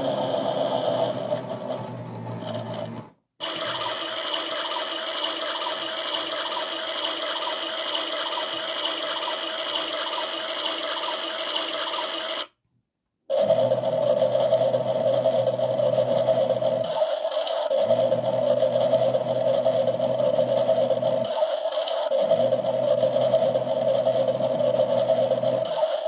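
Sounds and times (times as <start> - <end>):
washing machine motor hum: 0.0 - 12.4, 13.3 - 26.0.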